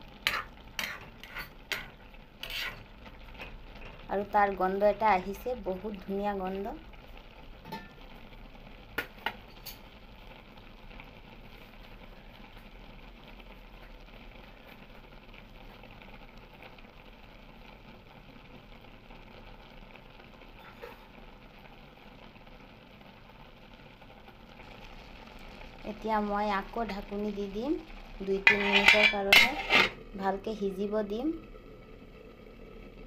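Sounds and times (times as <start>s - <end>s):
flowers sizzling in a wok: 0.0s - 33.0s.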